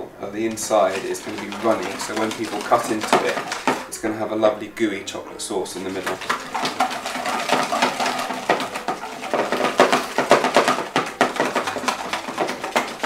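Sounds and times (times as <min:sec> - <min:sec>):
whisk scraping plastic bowl: 0:00.3 - 0:13.0.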